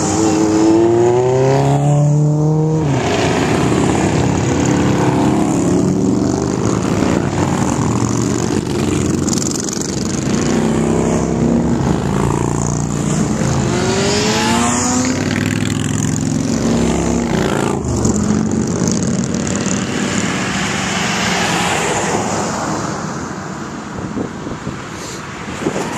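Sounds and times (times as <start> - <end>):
motorcycles riding past: 0.0 - 23.6
car passing: 0.0 - 25.9.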